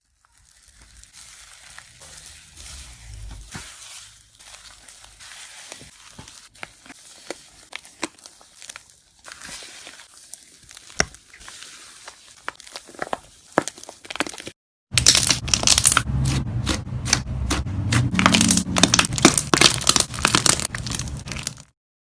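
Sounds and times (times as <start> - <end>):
slime crackling and popping: 0.0 - 16.1, 18.1 - 21.7.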